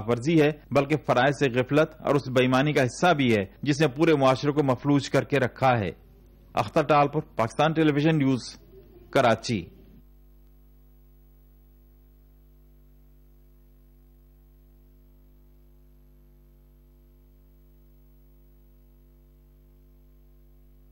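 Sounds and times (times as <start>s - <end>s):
electrical mains hum: 0.0s - 20.9s.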